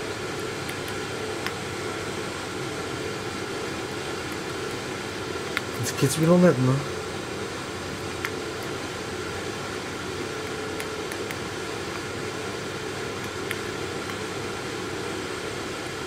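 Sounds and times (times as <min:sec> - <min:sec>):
fan-like hiss: 0:00.0 - 0:16.0.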